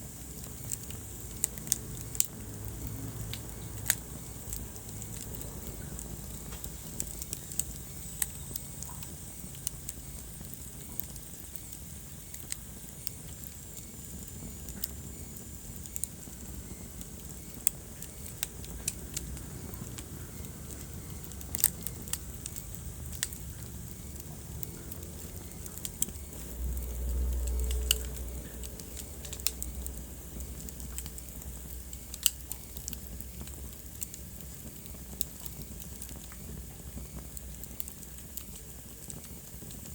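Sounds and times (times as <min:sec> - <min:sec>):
low steady rumble: 0:00.0 - 0:39.9
wood fire crackling and popping: 0:00.0 - 0:39.9.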